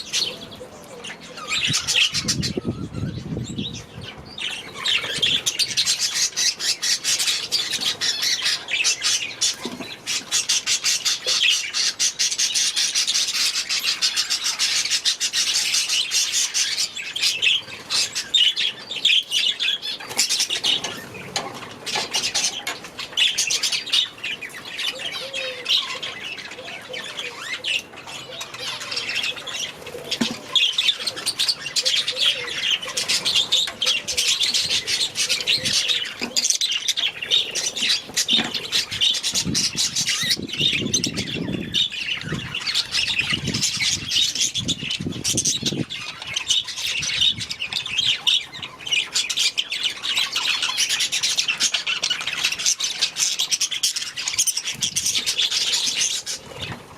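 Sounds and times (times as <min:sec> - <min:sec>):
budgerigars chattering and squawking: 0:00.0 - 0:56.9.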